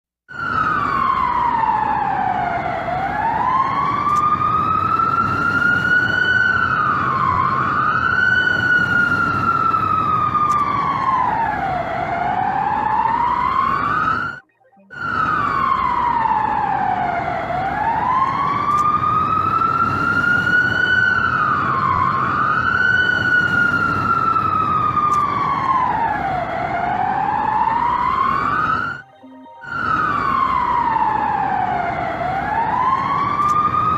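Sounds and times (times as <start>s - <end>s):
emergency siren wailing: 0.3s - 33.9s.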